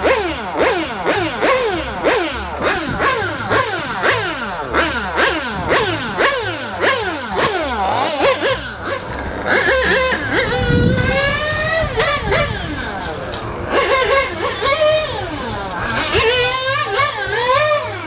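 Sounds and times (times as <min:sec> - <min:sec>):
rc car engine revving: 0:00.0 - 0:18.0.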